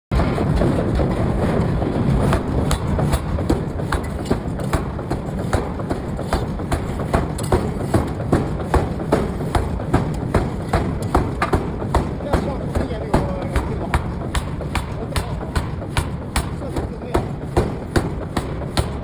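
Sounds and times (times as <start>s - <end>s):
forging hammer striking: 0.1s - 19.0s
low machine rumble: 0.1s - 19.0s.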